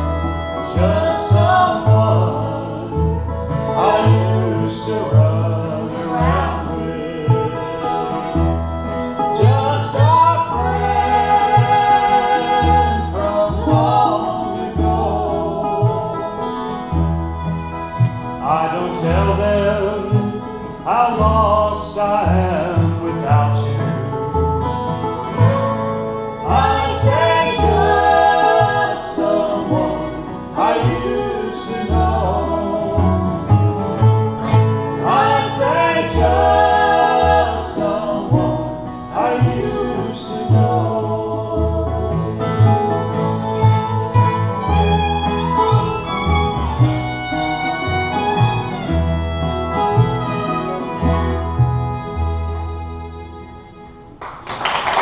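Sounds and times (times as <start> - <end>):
upright bass line: 0.0 - 53.6
resonator guitar: 0.0 - 54.2
fiddle: 0.0 - 54.3
acoustic guitars: 0.0 - 55.0.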